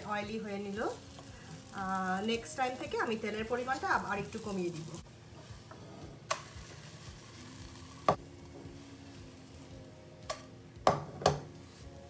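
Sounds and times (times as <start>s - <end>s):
flatbread frying in oil: 0.0s - 9.9s.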